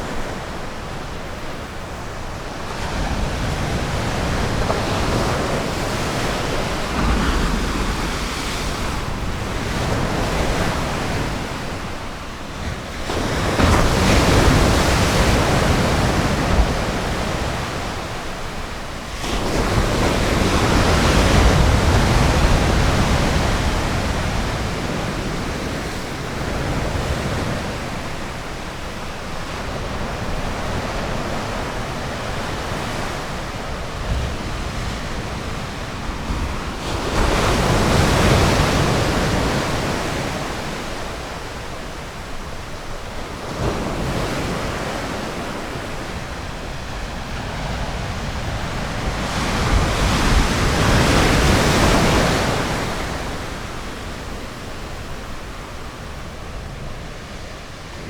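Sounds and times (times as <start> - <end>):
ocean surf on a beach: 0.0 - 58.0.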